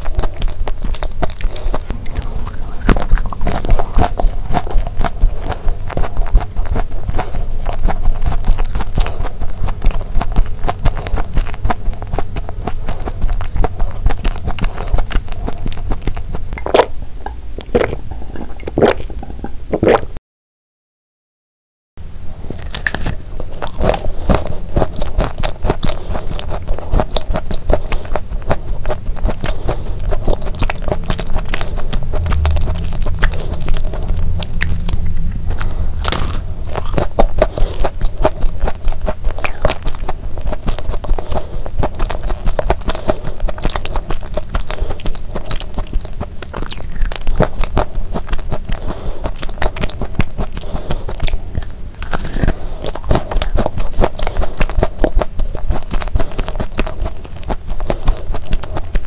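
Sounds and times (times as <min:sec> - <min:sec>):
chewing crunchy cookie: 0:00.0 - 0:20.1, 0:22.4 - 0:59.0.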